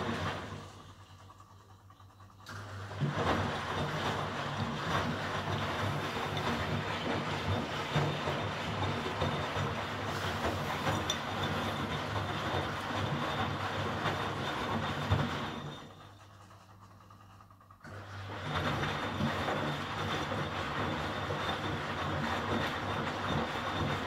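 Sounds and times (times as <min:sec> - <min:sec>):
washing machine drum tumbling: 0:00.0 - 0:24.0.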